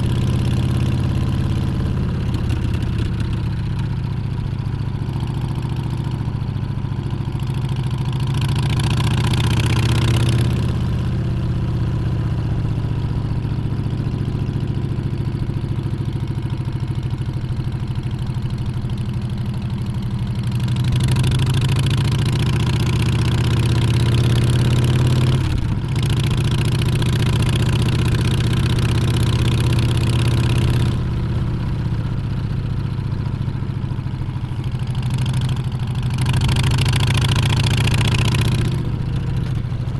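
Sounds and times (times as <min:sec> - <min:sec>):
motorcycle engine accelerating: 0:07.3 - 0:39.9.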